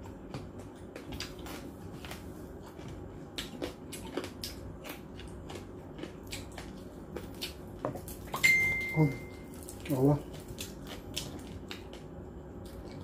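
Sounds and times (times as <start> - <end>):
chewing with wet clicks: 0.0 - 13.0.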